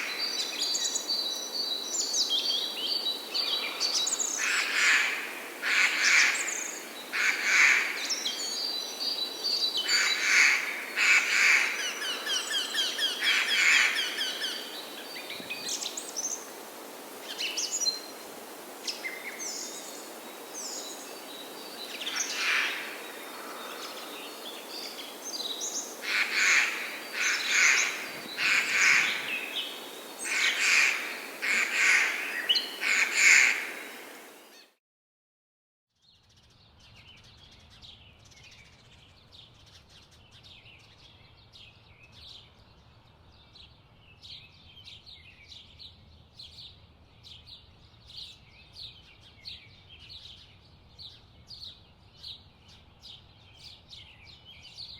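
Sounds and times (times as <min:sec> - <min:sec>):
steady outdoor hiss: 0:00.0 - 0:34.7, 0:36.2 - 0:54.9.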